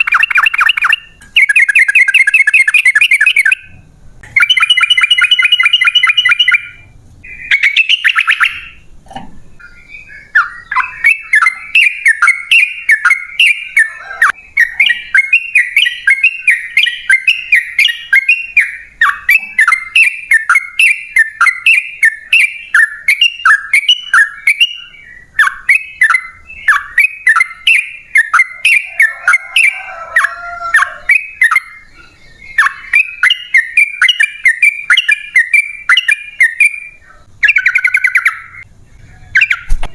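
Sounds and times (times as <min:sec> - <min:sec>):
bird singing trills and chatter: 0:00.0 - 0:39.8.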